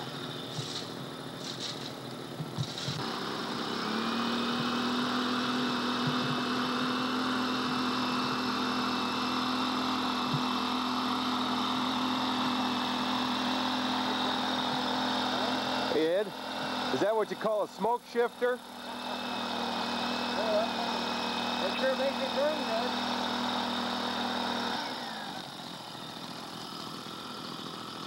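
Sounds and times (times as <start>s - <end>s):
leaf blower engine whining: 0.0s - 28.0s.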